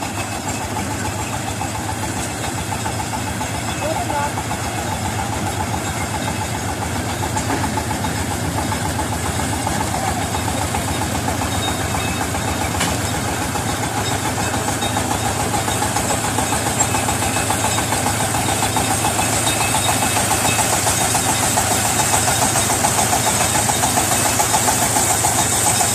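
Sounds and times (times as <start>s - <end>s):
harvester engine running: 0.0s - 25.9s.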